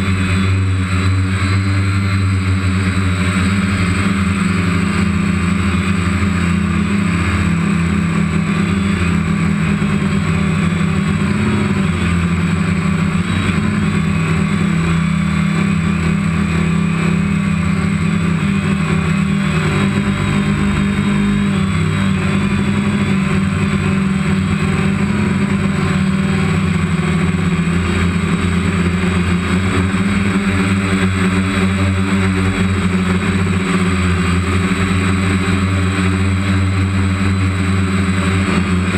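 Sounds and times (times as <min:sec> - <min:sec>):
drone propellers whirring: 0:00.0 - 0:38.9.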